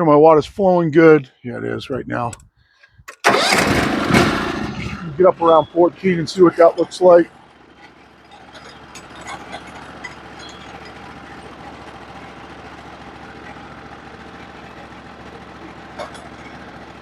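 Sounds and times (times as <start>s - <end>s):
sawmill engine idling: 3.2s - 17.0s.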